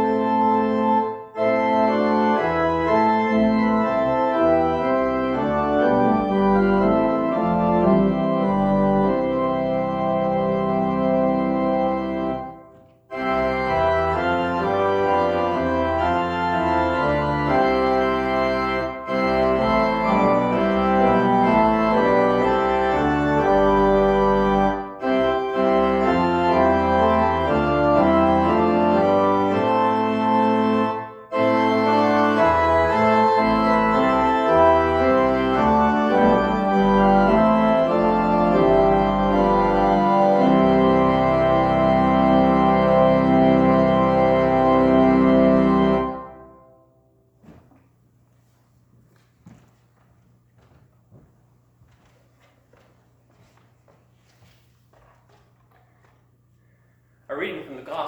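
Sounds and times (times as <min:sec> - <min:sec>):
church organ playing chords: 0:00.0 - 0:47.2.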